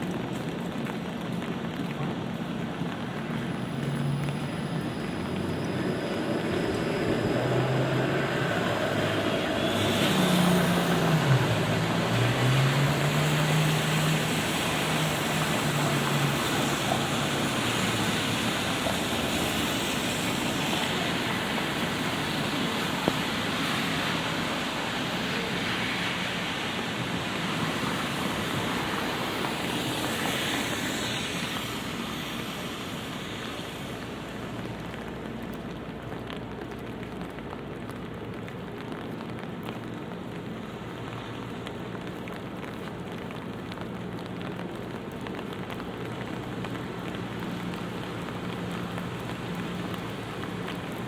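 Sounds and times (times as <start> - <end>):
city traffic: 0.0 - 51.0
light rain: 0.0 - 51.0
vehicle engine hum: 0.8 - 51.0.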